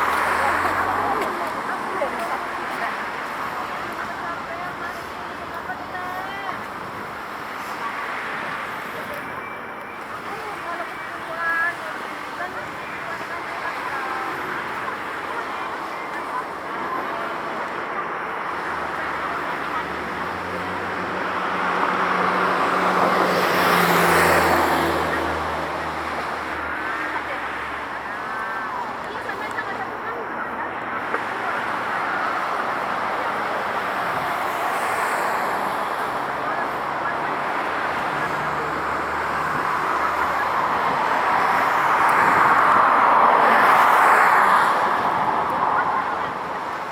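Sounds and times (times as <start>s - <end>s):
road traffic noise: 0.0s - 46.9s.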